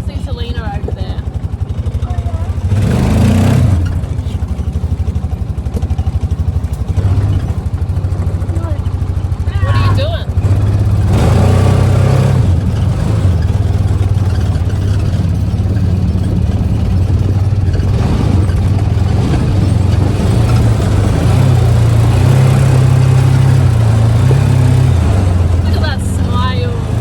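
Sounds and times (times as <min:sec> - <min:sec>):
buggy engine running: 0:00.0 - 0:27.0.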